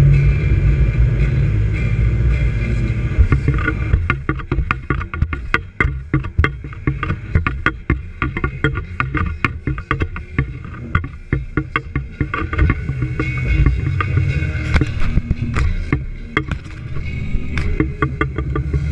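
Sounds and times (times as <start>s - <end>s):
outboard motor rumble: 0.0s - 18.9s.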